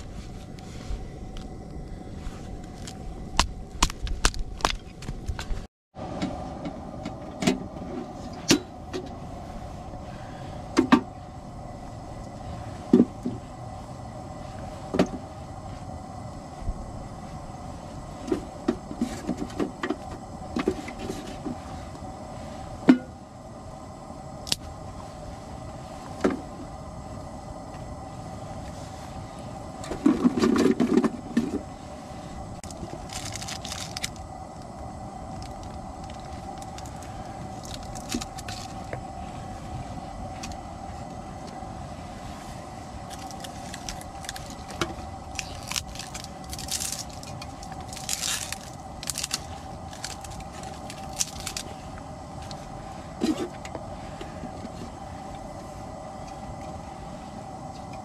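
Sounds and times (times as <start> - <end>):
steady background hum: 0.0 - 58.0.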